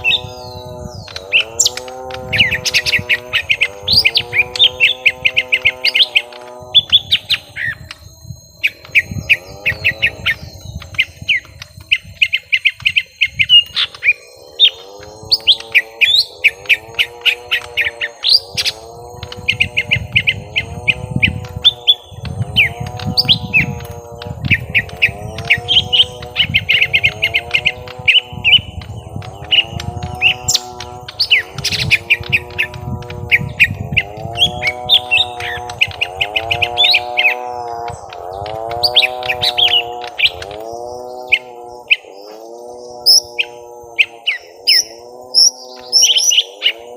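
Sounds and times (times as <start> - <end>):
birds chattering chirps: 0.0 - 46.9.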